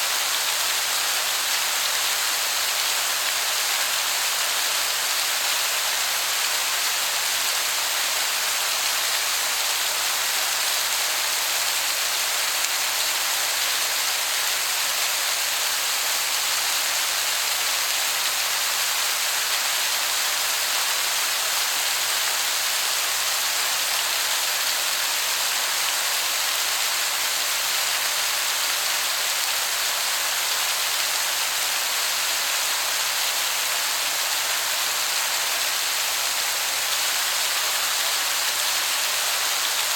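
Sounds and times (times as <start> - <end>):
waterfall hiss: 0.0 - 39.9.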